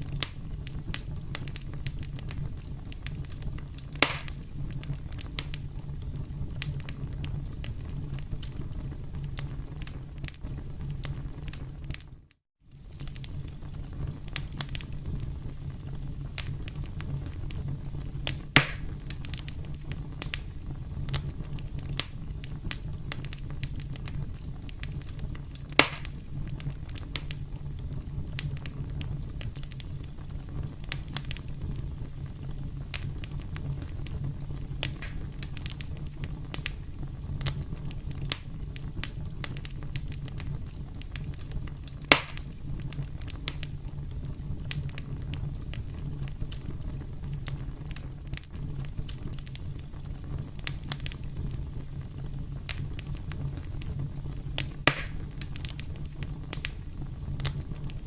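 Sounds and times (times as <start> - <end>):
campfire crackling: 0.0 - 58.0
loud fire pops: 0.0 - 58.0.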